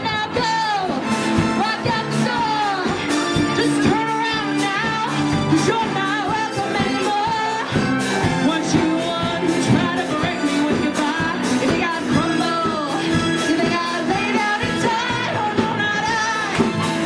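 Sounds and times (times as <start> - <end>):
electric guitar: 0.0 - 17.0
woman singing disco song: 0.0 - 17.0.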